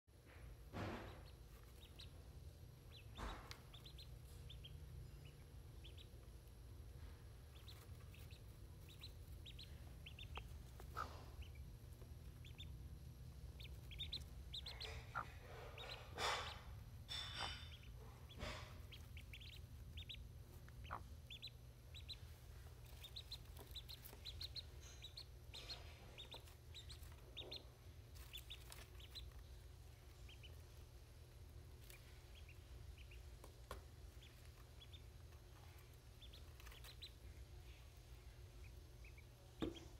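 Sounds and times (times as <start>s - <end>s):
steady low hum: 0.2s - 39.9s
ducklings peeping: 0.3s - 39.9s
hen clucking: 0.8s - 6.6s, 7.4s - 39.9s.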